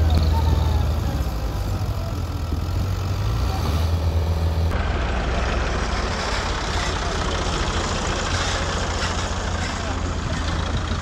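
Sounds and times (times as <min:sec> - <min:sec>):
diesel tractor engines under load: 0:00.0 - 0:11.0.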